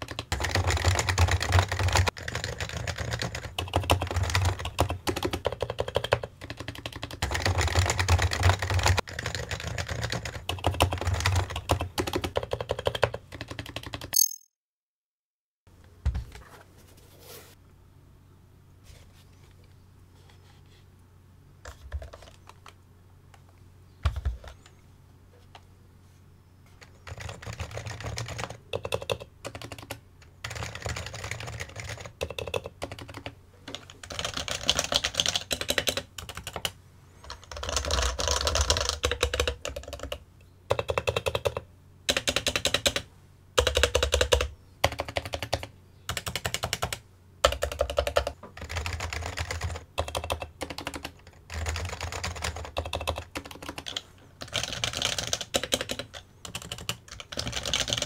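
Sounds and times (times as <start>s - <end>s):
fast keyboard typing: 0.0s - 14.5s, 21.6s - 22.8s, 24.0s - 24.7s, 26.8s - 58.0s.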